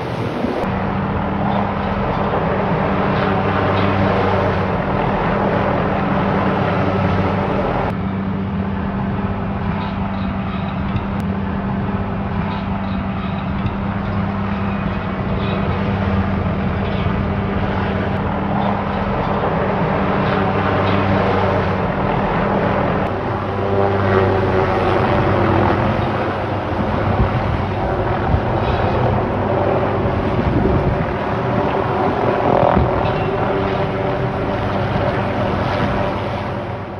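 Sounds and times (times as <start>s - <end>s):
helicopter rotor and engine drone: 0.0s - 36.9s.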